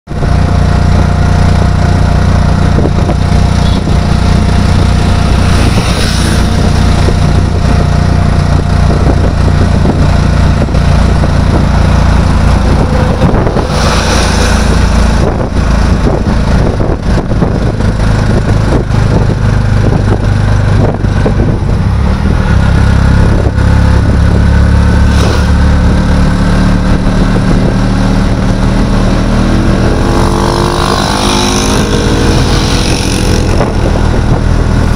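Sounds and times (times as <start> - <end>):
continuous rushing noise: 0.1 - 34.9
vehicle engine humming: 0.1 - 34.9.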